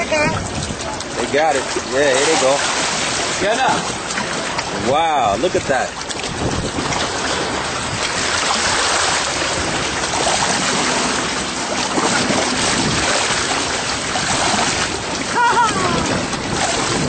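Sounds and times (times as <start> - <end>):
sea water lapping at shore: 0.0 - 17.0
wind on microphone: 0.0 - 17.0.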